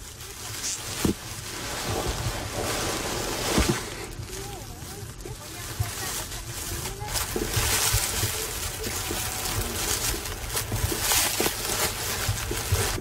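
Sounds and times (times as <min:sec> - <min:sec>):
grass rustling and crackling: 0:00.0 - 0:13.0.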